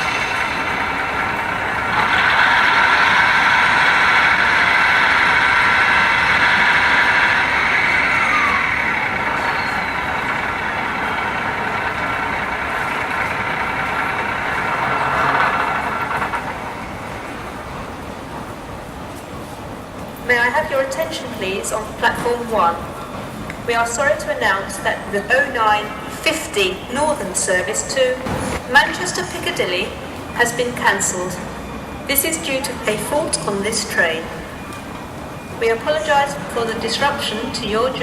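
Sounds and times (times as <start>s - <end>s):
diesel railcar engine running: 0.0s - 38.0s.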